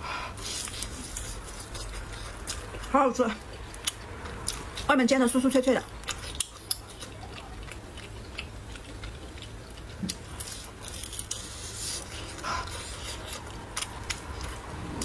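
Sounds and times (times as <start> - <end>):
crunchy pastry biting and chewing: 0.4 - 4.9, 6.0 - 15.0.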